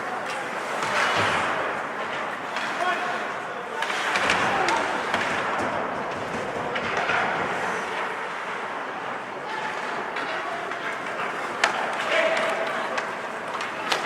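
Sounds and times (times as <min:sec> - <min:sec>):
skates scraping ice: 0:00.0 - 0:14.0
stick hitting puck: 0:00.0 - 0:14.0.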